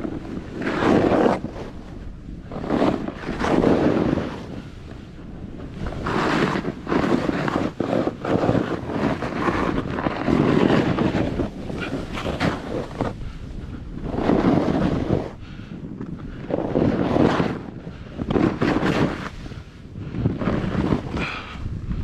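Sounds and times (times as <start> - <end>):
snowboard swishing through snow: 0.0 - 22.0
wind buffeting microphone: 0.0 - 22.0.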